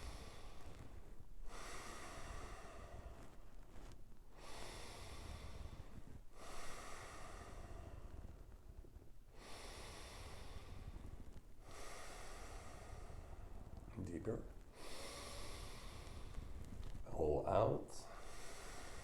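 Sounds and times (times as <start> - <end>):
person breathing through nose: 0.0 - 8.5, 9.3 - 13.9, 14.7 - 17.0, 18.0 - 19.0.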